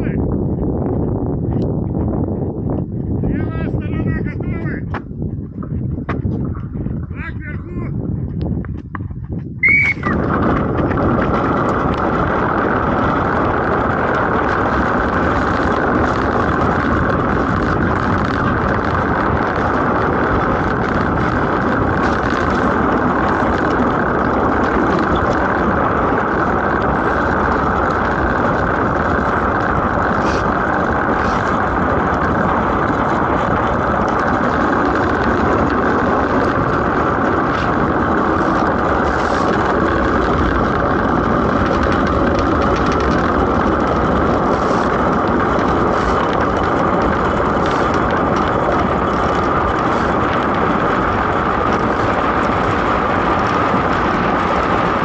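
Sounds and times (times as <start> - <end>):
ice boat runners on ice: 0.0 - 55.0
wind on microphone: 0.0 - 55.0.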